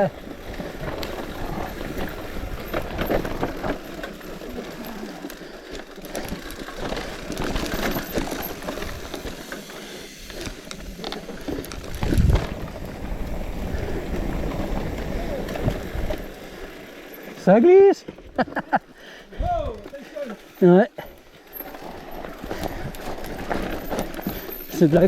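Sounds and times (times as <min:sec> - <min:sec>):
bicycle tyres on dirt: 0:00.0 - 0:25.0
bike rattles and clicks: 0:00.0 - 0:25.0.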